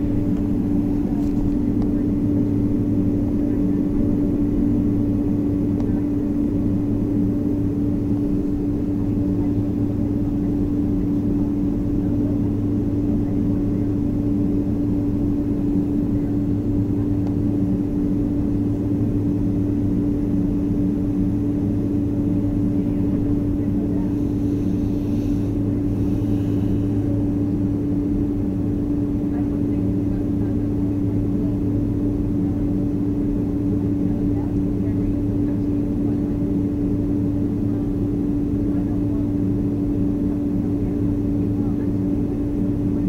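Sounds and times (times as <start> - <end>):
jet airliner drone: 0.0 - 43.0.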